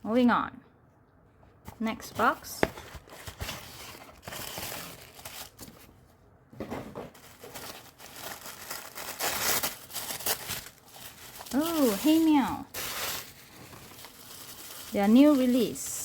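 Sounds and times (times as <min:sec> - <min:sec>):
packaging crinkling and rustling: 0:01.7 - 0:16.0.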